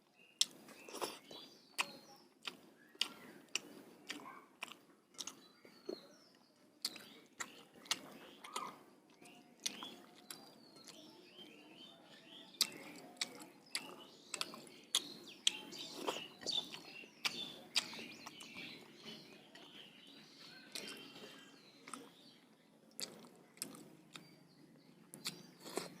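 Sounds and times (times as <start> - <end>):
birds chirping: 0.0 - 26.0
chewing with mouth clicks and smacks: 0.4 - 26.0.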